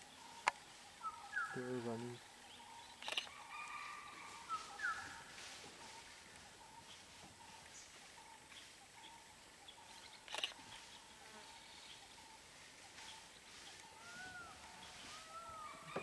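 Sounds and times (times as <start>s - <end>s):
distant bird chirps: 0.0s - 16.0s.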